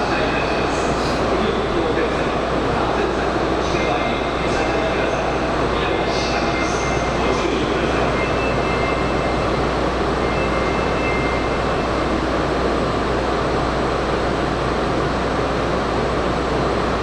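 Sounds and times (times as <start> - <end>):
stationary train equipment hum: 0.0 - 17.0.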